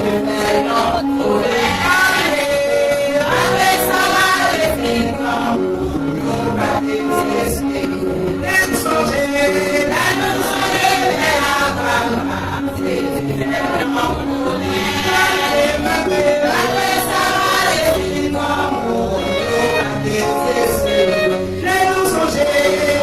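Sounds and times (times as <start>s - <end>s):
accompaniment with bass line: 0.0s - 23.0s
choir singing a gospel hymn: 0.0s - 23.0s.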